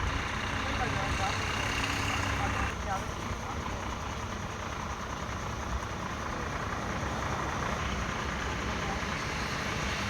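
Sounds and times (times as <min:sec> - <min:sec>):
heavy truck engine running: 0:00.0 - 0:10.0.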